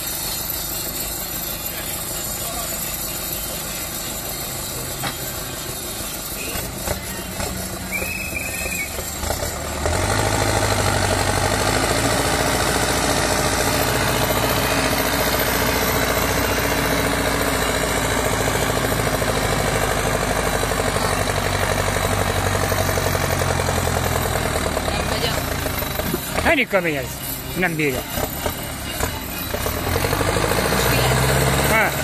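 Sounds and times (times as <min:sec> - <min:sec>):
tractor diesel engine under heavy load: 0:00.0 - 0:32.0.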